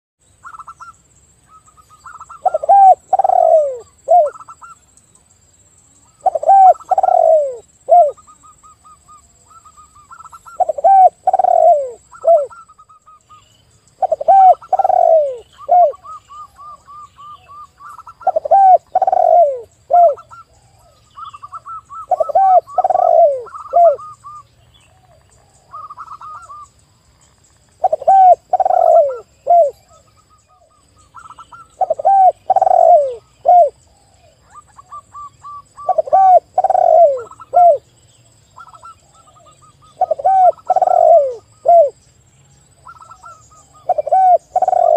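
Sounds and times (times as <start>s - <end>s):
doves cooing: 1.6s - 4.7s, 6.1s - 13.0s, 14.0s - 26.6s, 27.8s - 37.8s, 38.6s - 42.0s, 42.8s - 44.9s.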